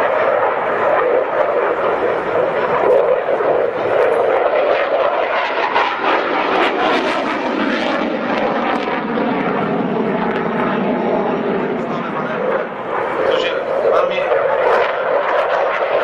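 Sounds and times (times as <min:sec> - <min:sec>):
fighter jet engine roaring: 0:00.0 - 0:16.0.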